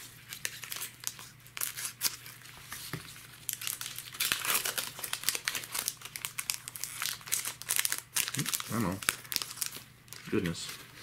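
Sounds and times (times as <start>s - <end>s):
foil wrapper crinkling: 0.2s - 11.0s.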